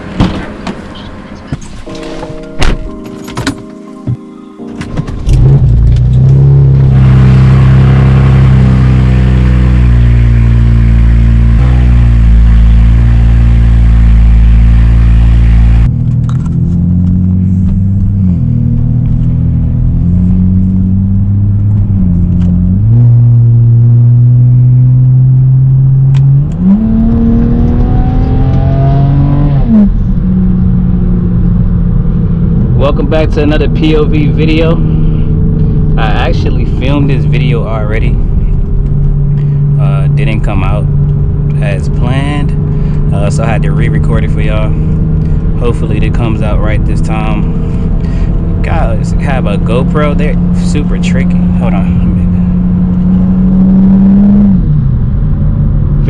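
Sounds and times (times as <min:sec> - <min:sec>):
car engine starting and idling: 0:00.0 - 0:56.0
engine revving: 0:05.2 - 0:56.0.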